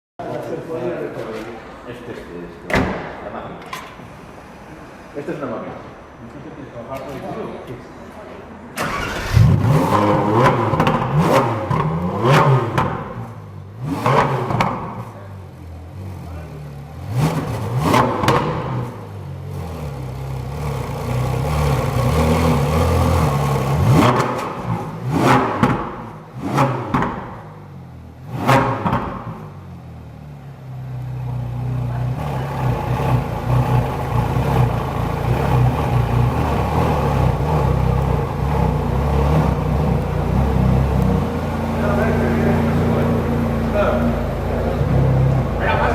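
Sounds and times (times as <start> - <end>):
car engine idling: 8.8 - 45.9
car engine revving: 8.8 - 45.9.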